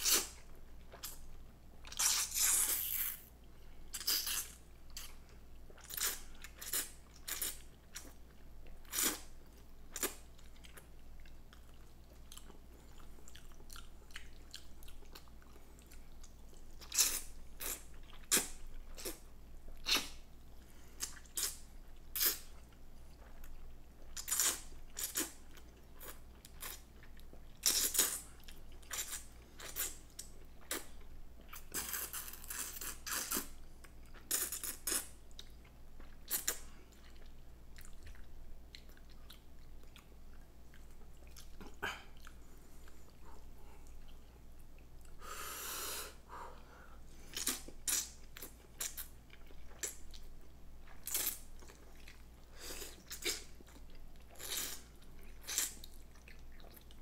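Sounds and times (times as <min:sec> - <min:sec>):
wet chewing and smacking: 0:03.9 - 0:45.2, 0:47.3 - 0:57.0.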